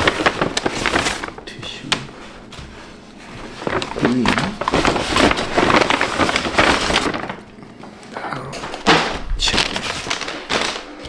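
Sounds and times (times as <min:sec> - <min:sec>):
paper bag rustling: 0:00.0 - 0:11.0.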